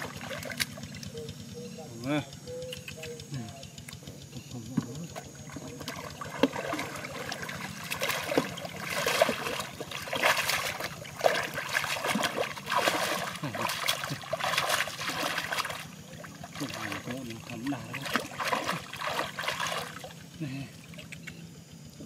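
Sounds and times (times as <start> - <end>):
muddy water splashing: 0.0 - 1.2, 2.7 - 21.4.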